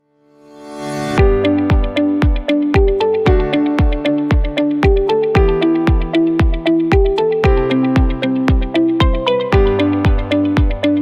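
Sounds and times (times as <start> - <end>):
electronic music: 1.2 - 11.0
kick drum beat: 1.2 - 11.0
stepping synth melody: 1.2 - 11.0.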